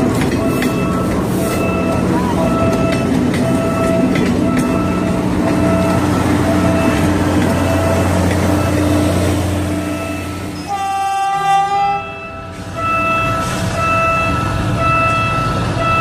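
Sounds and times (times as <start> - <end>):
train rumbling past: 0.0 - 16.0
diesel locomotive horn blast: 0.5 - 16.0.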